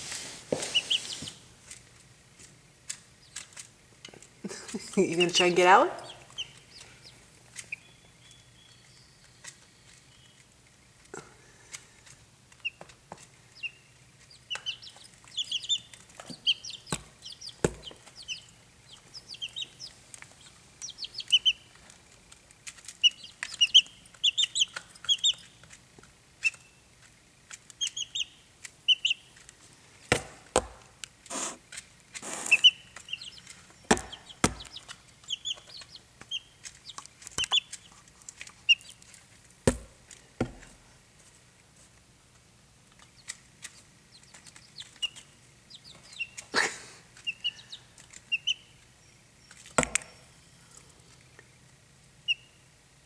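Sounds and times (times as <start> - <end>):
chicks peeping: 0.1 - 40.8, 42.3 - 52.7.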